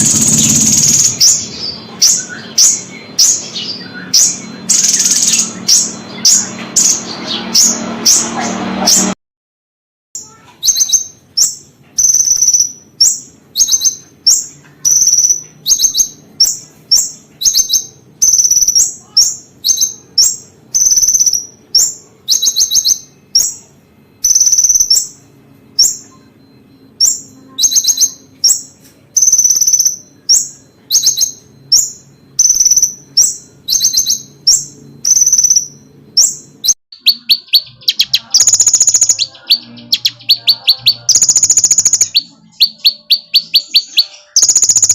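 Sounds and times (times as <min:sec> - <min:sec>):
bird chirping and trilling: 0:00.0 - 0:09.2, 0:10.2 - 0:44.9.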